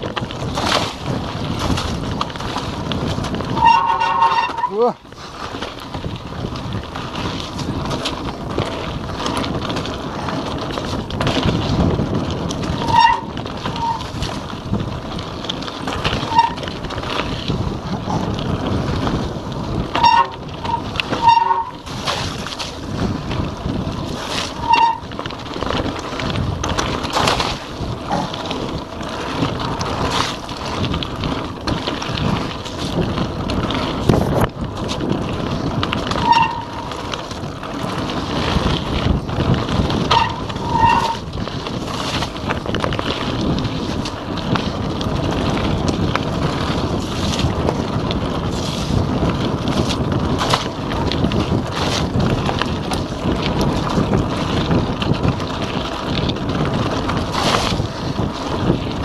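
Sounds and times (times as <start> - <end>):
bike rattling over bumps: 0.0 - 59.0
bike tyres on dirt trail: 0.0 - 59.0
wind rushing over microphone: 0.0 - 59.0.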